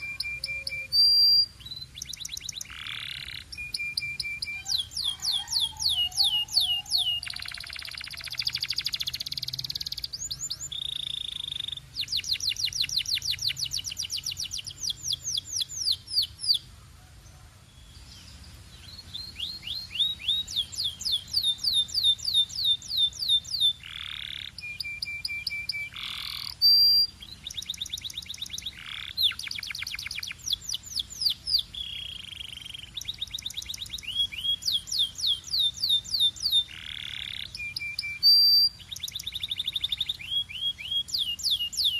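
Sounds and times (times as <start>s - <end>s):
canary singing trills: 0.0s - 16.7s, 17.7s - 41.9s.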